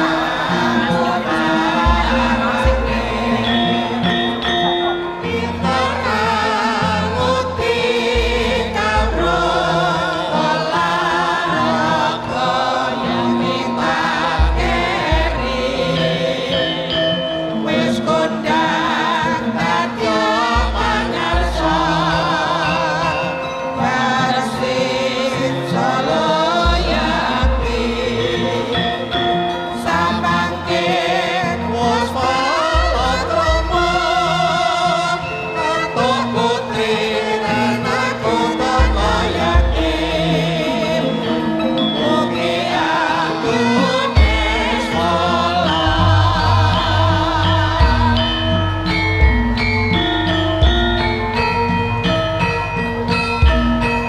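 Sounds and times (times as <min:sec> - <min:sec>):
gamelan music: 0:00.0 - 0:54.0
sung chorus: 0:00.0 - 0:54.0.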